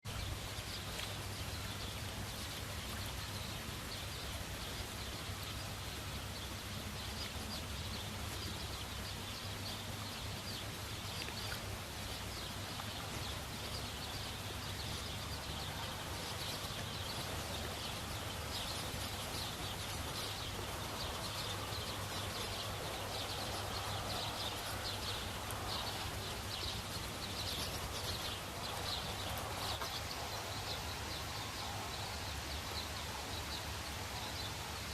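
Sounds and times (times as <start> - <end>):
steady low hum: 0.1 - 34.2.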